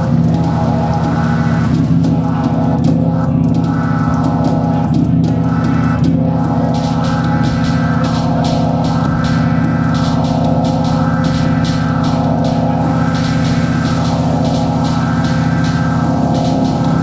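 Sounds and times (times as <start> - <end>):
electronic music with low drone: 0.0 - 17.0
pulsing mid-range synth tones: 0.0 - 17.0.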